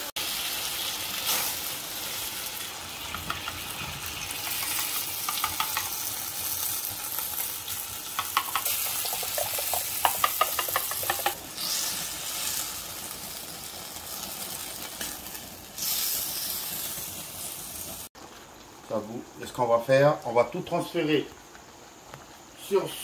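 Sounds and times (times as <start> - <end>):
food sizzling in a wok: 0.0 - 23.0.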